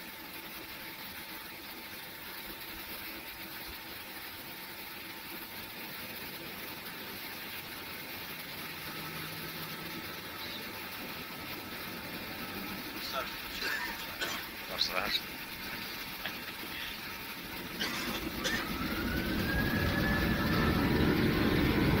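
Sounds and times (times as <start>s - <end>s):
faint steady whine: 0.0s - 22.0s
jet engine noise in cabin: 0.0s - 22.0s.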